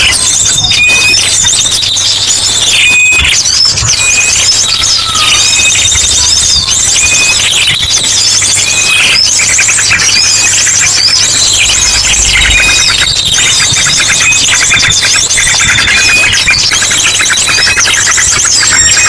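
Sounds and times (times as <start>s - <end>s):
chorus of small birds chirping: 0.0s - 19.0s
rapid bird song with trills: 0.0s - 19.0s.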